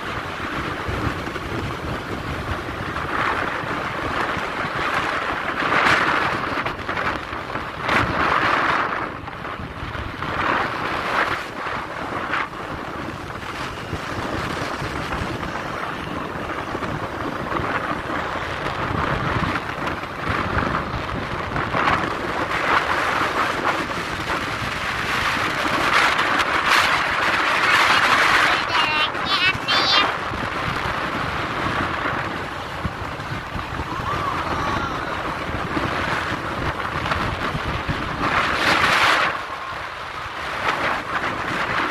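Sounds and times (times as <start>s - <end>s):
motorbike engine and road noise: 0.0s - 41.9s
wind buffeting microphone: 0.0s - 41.9s.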